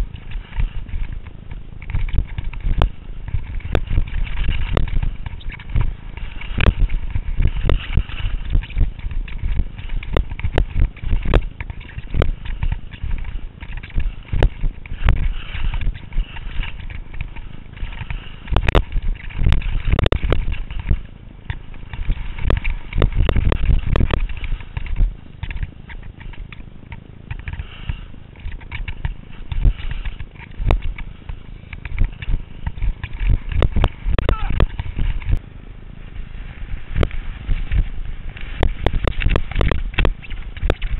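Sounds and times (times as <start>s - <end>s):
skis scraping over snow: 0.0s - 40.9s
wind buffeting microphone: 0.0s - 40.9s.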